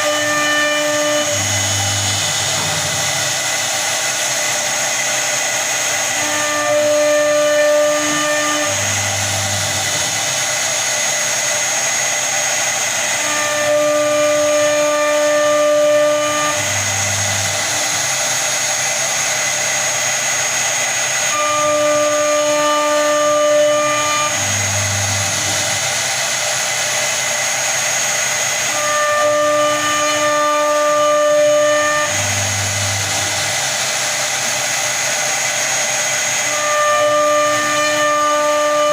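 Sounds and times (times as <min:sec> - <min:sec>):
lower pitched motor whine: 0:00.0 - 0:20.4, 0:21.2 - 0:27.9, 0:28.6 - 0:38.9
router spindle whine and cutting hiss: 0:00.0 - 0:38.9.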